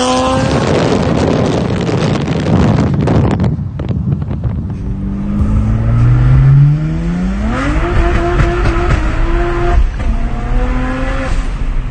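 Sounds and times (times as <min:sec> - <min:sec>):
car engine accelerating hard: 0:00.0 - 0:02.5, 0:04.2 - 0:11.9.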